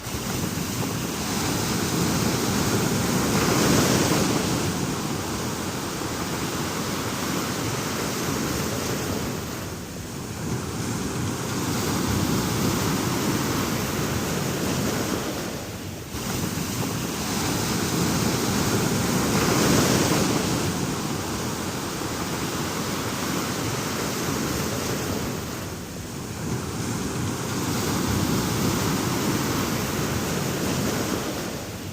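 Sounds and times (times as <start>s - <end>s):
ocean waves breaking: 0.0s - 31.9s.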